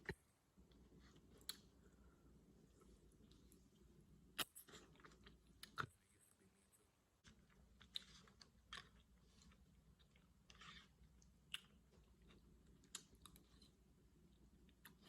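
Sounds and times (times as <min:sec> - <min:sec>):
faint chewing of pasta: 0:00.0 - 0:15.0.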